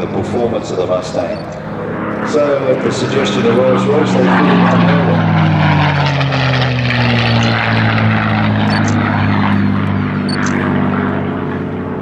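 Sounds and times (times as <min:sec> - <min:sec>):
propeller plane engine overhead: 0:00.0 - 0:12.0.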